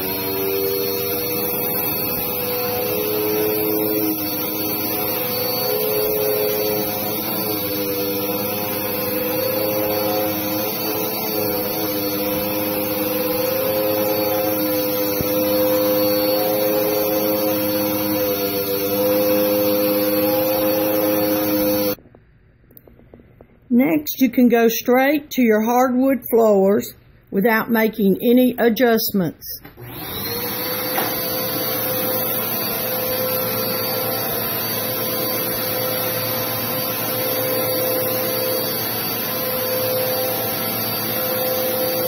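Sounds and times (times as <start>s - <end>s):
vacuum cleaner running: 0.0s - 22.0s, 29.6s - 42.0s.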